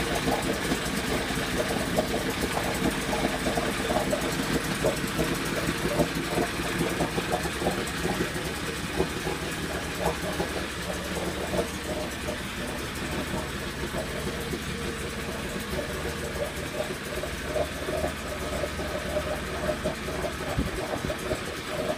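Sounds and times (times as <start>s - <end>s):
outboard motor idling: 0.0s - 21.9s.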